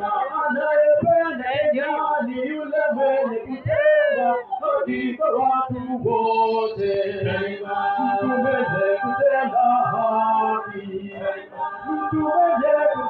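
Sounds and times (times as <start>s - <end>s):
men singing in chant-like style: 0.0s - 13.0s.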